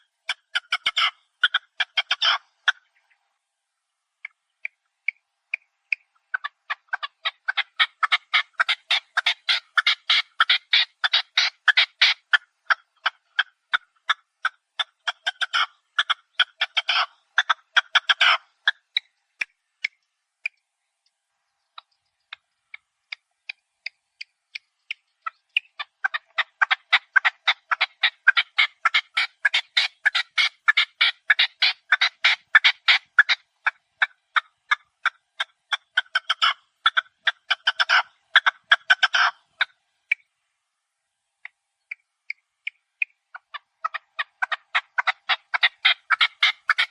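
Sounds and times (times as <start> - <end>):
partridges clucking calls: 0.0 - 3.3, 3.9 - 40.4, 41.4 - 46.9.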